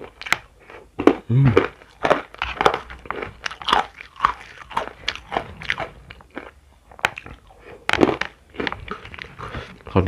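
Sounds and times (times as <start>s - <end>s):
chewing crunchy food: 0.0s - 10.0s.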